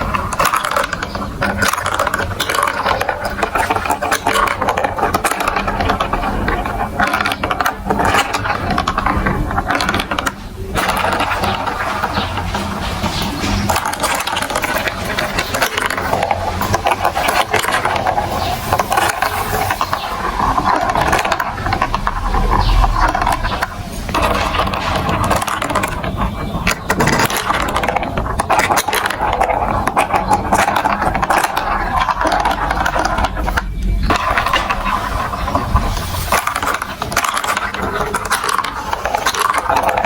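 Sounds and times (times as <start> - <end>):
marbles rattling through plastic track: 0.0 - 40.0.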